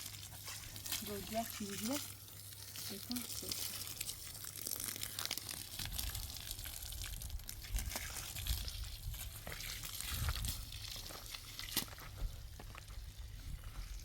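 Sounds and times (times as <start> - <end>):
crackles and spatters: 0.0 - 14.0.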